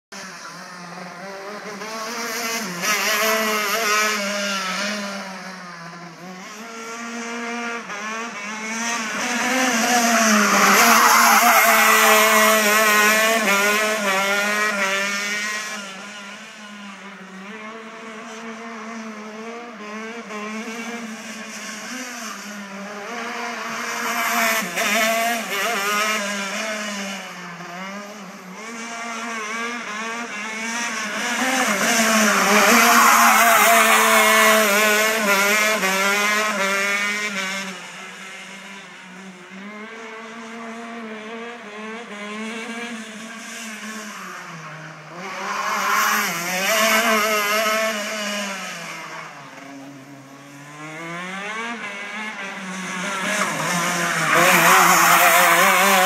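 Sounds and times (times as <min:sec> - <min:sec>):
kart engine revving: 0:00.2 - 0:56.0.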